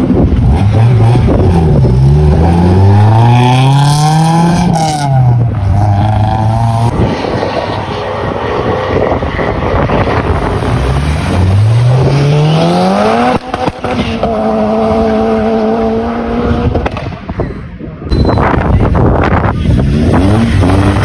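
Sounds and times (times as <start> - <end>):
car engine accelerating: 0.1 - 17.0, 19.6 - 21.0.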